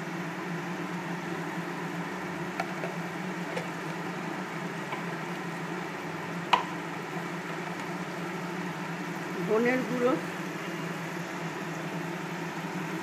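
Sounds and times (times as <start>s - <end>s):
sauce bubbling and hissing: 0.0s - 9.4s, 10.2s - 13.0s.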